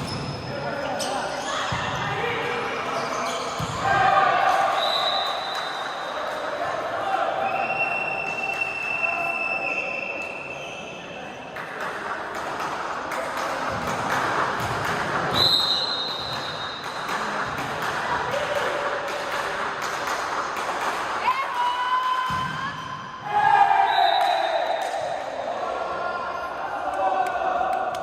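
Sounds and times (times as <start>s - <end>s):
crowd voices in a hall: 0.0s - 28.0s.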